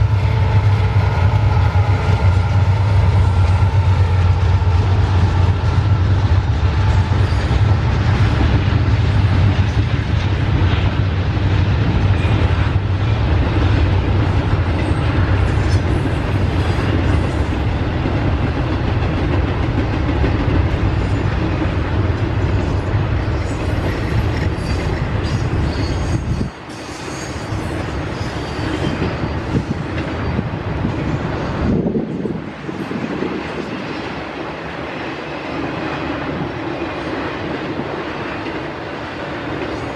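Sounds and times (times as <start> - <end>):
diesel locomotive drone: 0.0 - 39.9
train cars clickety-clack: 0.0 - 39.9.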